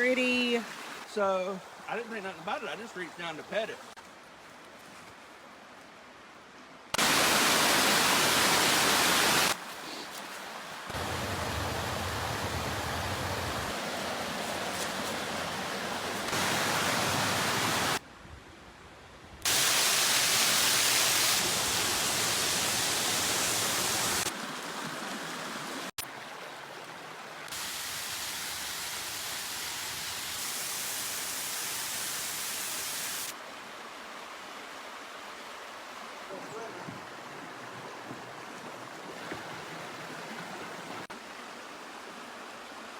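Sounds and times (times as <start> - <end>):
rushing water of waterfalls: 0.0 - 4.3, 5.5 - 18.0, 19.4 - 42.9.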